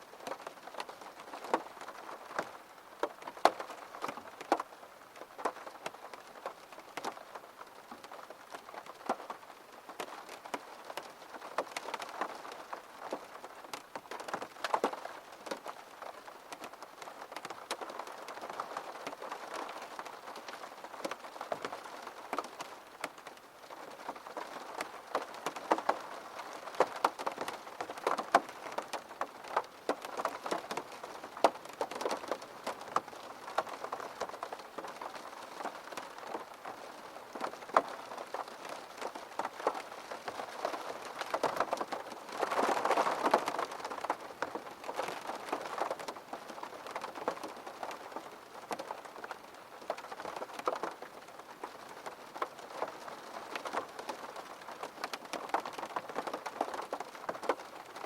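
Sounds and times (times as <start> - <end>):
steady rain hiss: 0.0 - 58.0
raindrops tapping on a surface: 0.2 - 58.0.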